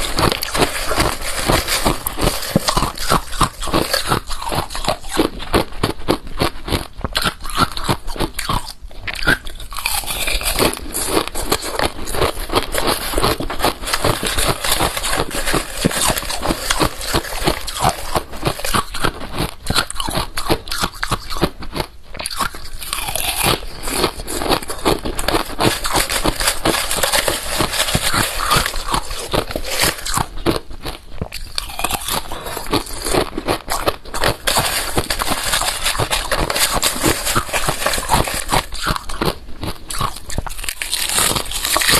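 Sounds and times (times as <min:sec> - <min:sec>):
chewing and crunching ice: 0:00.0 - 0:41.9.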